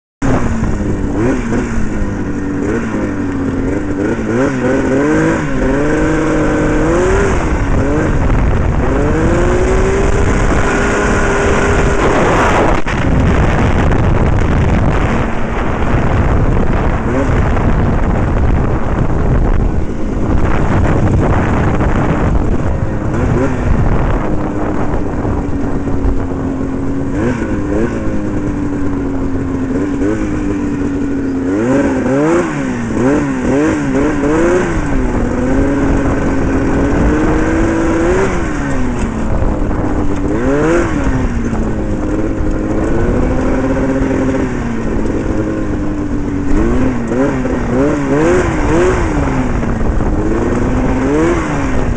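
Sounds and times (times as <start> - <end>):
two-stroke engine revving: 0.2 - 51.9
wind rumbling on microphone: 0.2 - 51.9.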